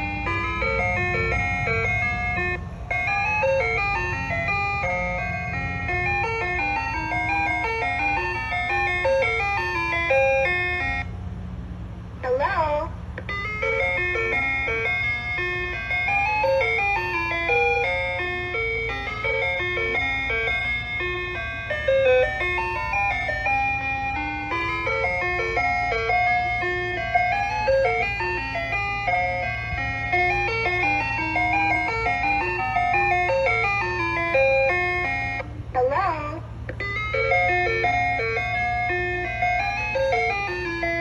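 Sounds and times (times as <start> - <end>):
ice cream truck chime jingle: 0.0 - 41.0.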